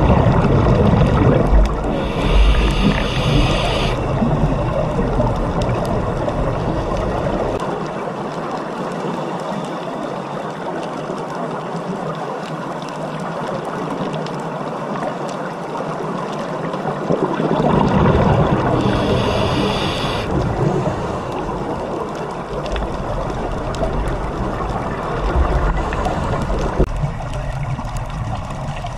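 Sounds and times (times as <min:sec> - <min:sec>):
underwater rushing and gurgling: 0:00.0 - 0:28.9.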